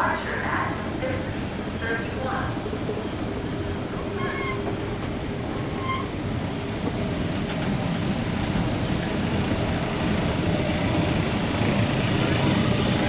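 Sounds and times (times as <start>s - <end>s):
electric locomotive rumble: 0.0s - 13.0s.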